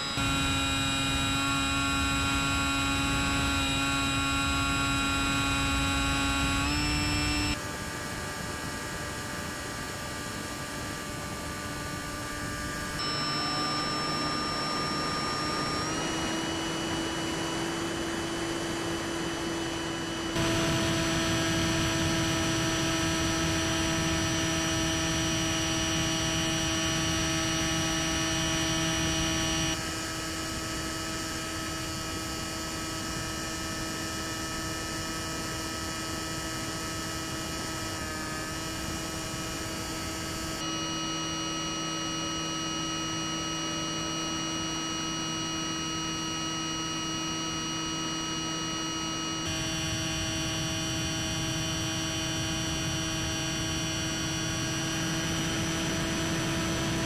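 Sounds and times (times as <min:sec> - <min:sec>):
electric model plane whine: 0:00.0 - 0:57.0.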